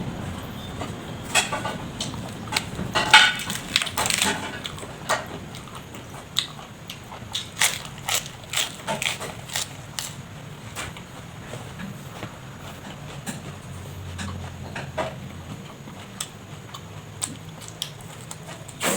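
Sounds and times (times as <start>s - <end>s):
person chewing crunchy food: 1.3s - 18.9s.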